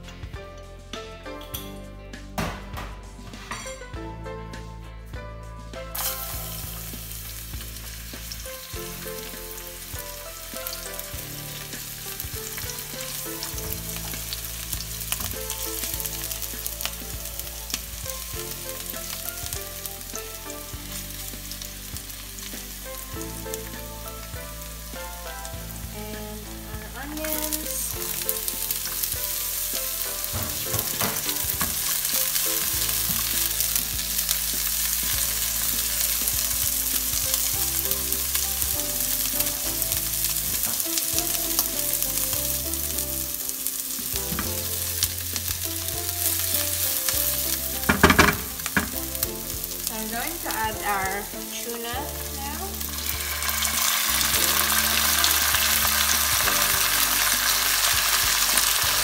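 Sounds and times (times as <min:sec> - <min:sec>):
onion sizzling in oil: 0:05.9 - 0:59.0.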